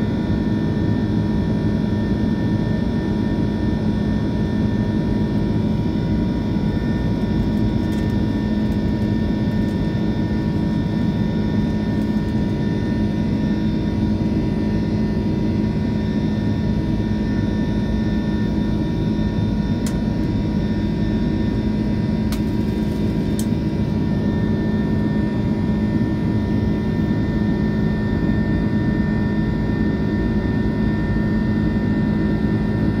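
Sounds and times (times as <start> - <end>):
jet engine cabin noise: 0.0 - 33.0.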